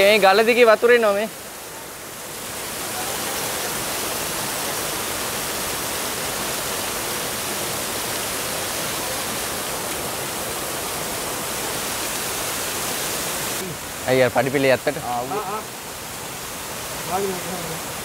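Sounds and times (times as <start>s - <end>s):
waterfall rushing hiss: 0.0s - 18.0s.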